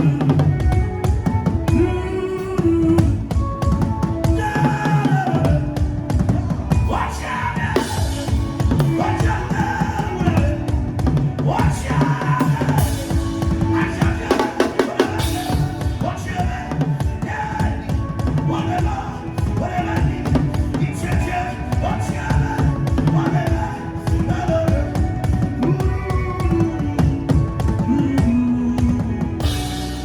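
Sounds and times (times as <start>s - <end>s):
fast drumming on drum kit: 2.7s - 7.0s, 7.6s - 30.0s.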